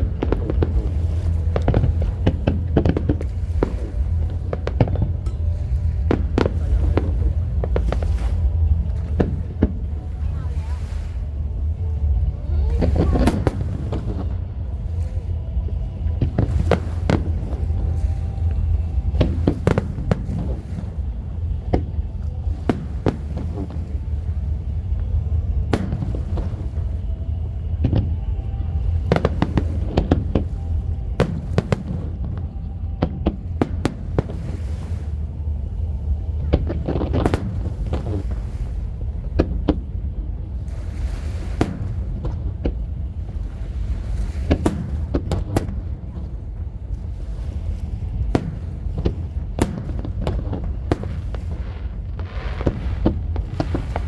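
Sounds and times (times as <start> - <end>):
fireworks bangs and crackles: 0.0 - 10.5, 12.6 - 35.4, 36.2 - 54.0
low rumble: 0.0 - 54.0.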